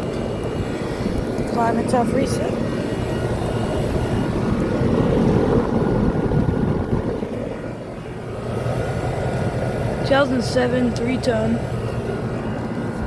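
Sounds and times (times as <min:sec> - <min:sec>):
air conditioner units humming: 0:00.0 - 0:13.0.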